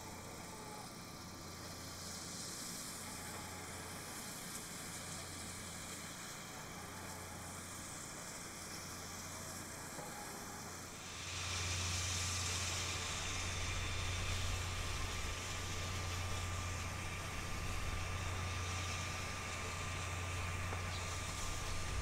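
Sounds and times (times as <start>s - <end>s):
steam hissing: 0.0s - 22.0s.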